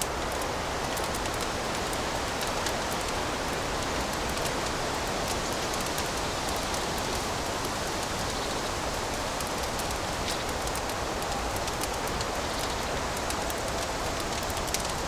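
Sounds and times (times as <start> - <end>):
fire crackles and pops: 0.0 - 15.0
fire hissing: 0.0 - 15.0.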